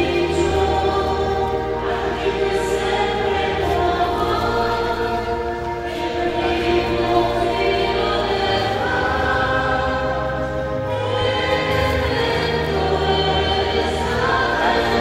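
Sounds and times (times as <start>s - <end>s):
choir singing a hymn: 0.0s - 15.0s
low held accompaniment notes: 0.0s - 15.0s.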